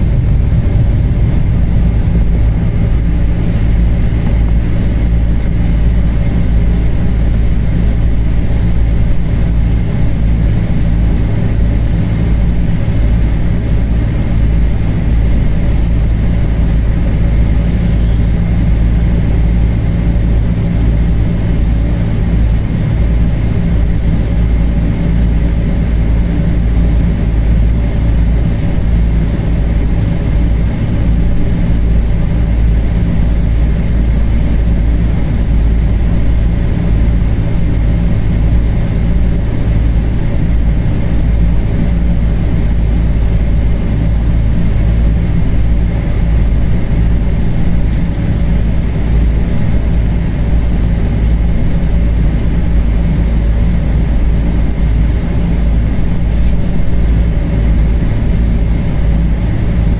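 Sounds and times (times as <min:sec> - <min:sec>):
airliner engine rumble: 0:00.0 - 0:59.9
faint steady whine: 0:00.0 - 0:59.9.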